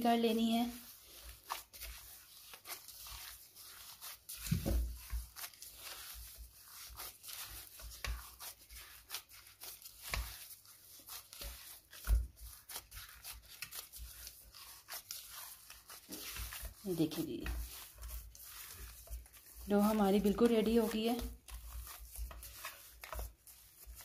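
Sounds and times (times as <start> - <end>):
hands kneading dough: 0.0 - 24.0.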